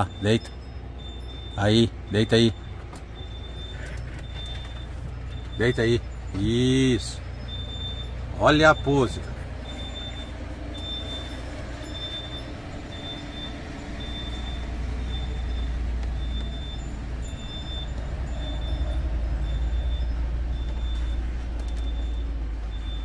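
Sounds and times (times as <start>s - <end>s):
short high-pitched beeps: 0.0s - 23.0s
truck diesel engine rumble: 0.0s - 23.0s.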